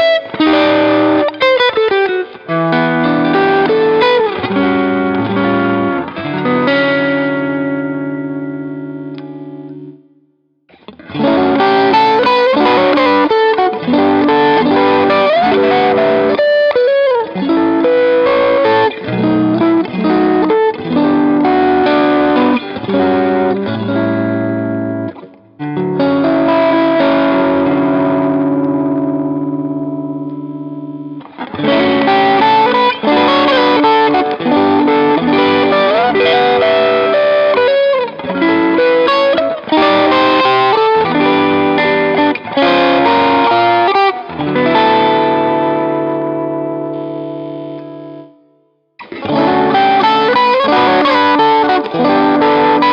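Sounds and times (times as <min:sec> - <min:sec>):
backing track: 0:00.0 - 0:52.9
electric guitar lines: 0:00.0 - 0:52.9.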